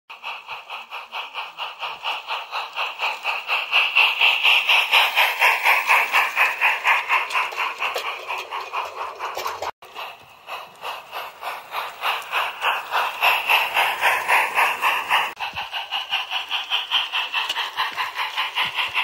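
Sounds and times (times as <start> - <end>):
model train running past: 0.1 - 19.0.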